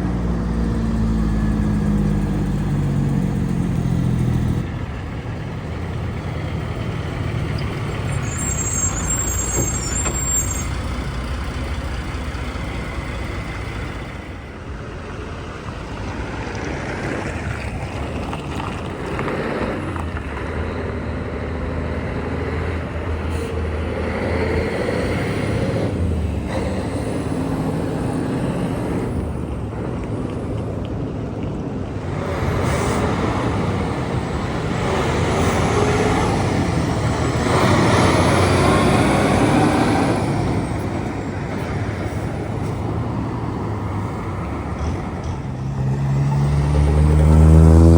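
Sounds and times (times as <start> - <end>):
heavy trucks driving past: 0.0 - 47.9.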